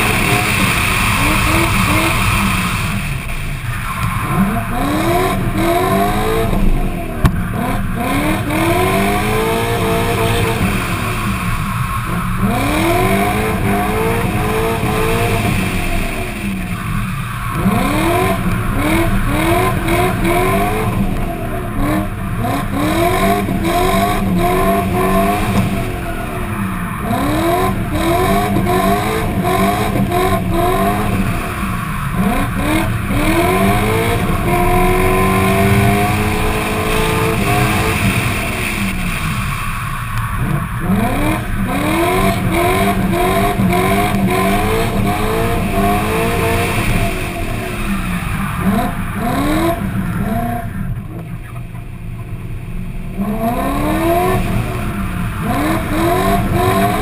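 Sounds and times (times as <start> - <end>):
car engine revving hard: 0.0 - 51.6, 52.3 - 57.0.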